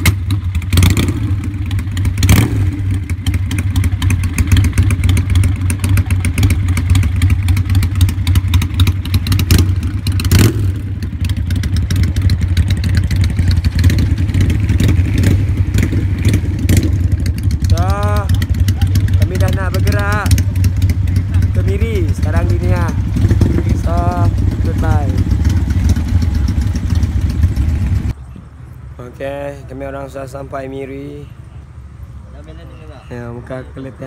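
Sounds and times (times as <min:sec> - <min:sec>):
motorcycle engine idling: 0:00.0 - 0:28.5.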